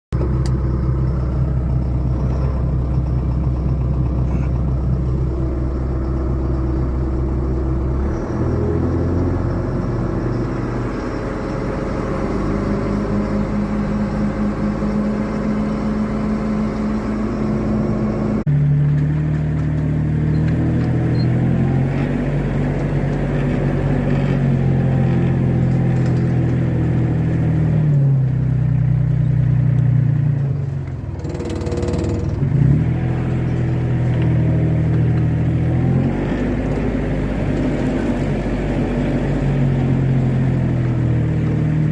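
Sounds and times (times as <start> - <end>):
tractor engine running: 0.1 - 41.9.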